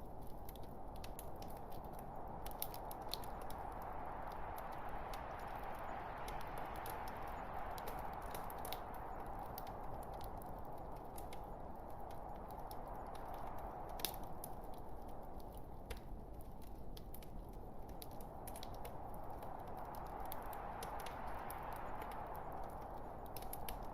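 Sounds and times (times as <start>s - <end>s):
fire pops and snaps: 0.0s - 23.9s
log fire burning: 0.0s - 23.9s.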